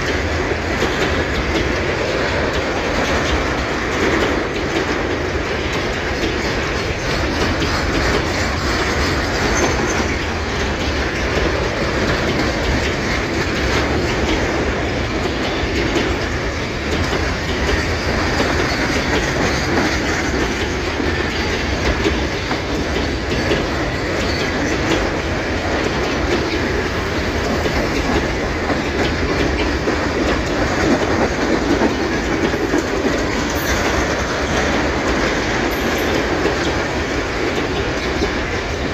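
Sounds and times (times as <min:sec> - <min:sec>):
train wheels clattering over joints: 0:00.0 - 0:38.9.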